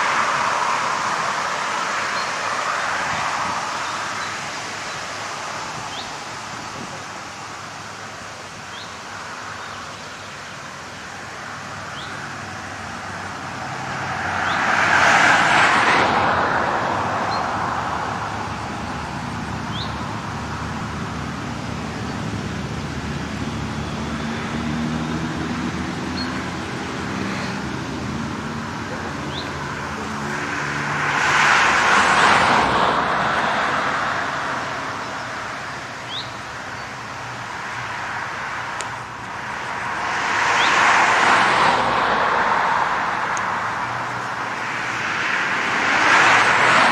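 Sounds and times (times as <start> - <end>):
road vehicles passing: 0.0 - 46.9
traffic noise: 0.0 - 46.9.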